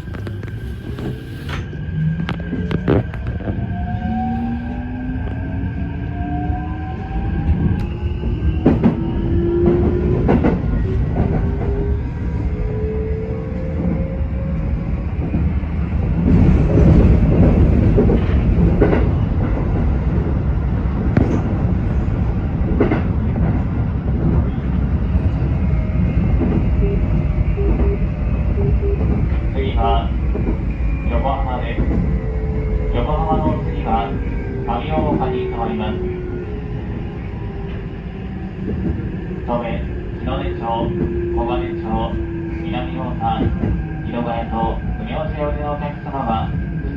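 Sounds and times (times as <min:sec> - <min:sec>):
train running rumble: 0:00.0 - 0:05.5, 0:07.4 - 0:12.6, 0:13.6 - 0:46.9.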